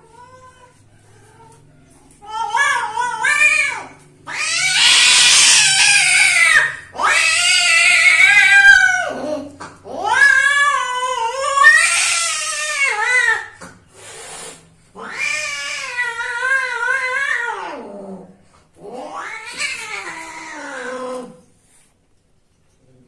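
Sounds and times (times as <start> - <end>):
cats caterwauling: 0.0 - 21.4.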